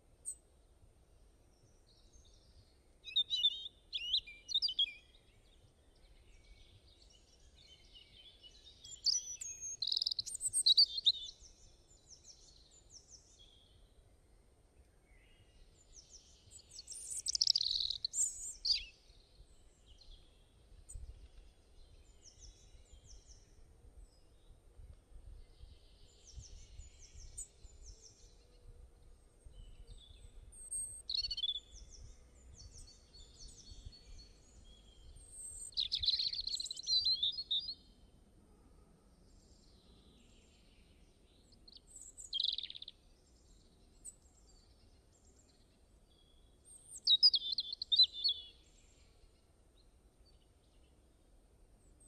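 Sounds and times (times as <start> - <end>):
songbirds singing and chirping: 1.4 - 38.3, 39.2 - 52.0.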